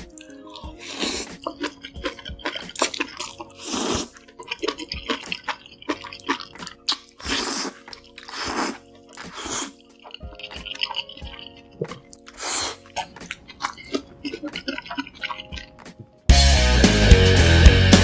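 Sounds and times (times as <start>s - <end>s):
faint background music: 0.0s - 16.3s
wet chewing and smacking: 0.0s - 16.3s.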